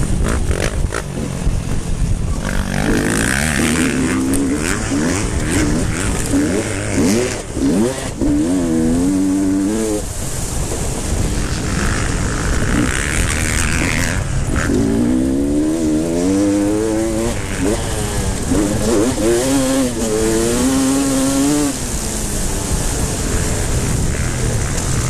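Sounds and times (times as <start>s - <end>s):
motocross motorcycles revving past: 0.0s - 25.0s.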